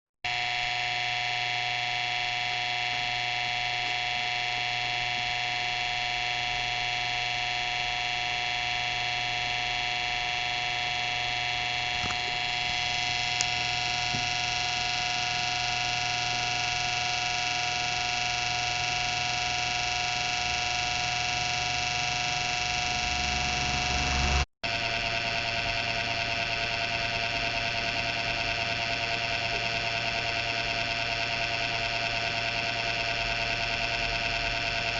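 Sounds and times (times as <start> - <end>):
computer whining buzz: 0.3 - 29.8.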